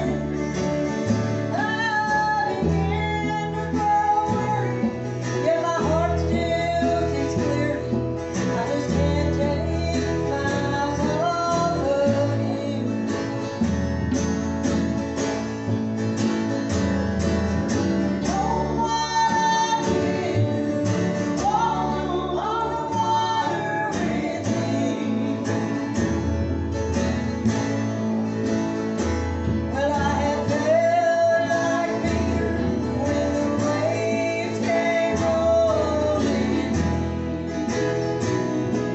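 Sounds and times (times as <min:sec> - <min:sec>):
gospel group singing: 0:00.0 - 0:13.4, 0:18.2 - 0:28.6, 0:29.4 - 0:38.2
acoustic guitar: 0:00.0 - 0:38.9.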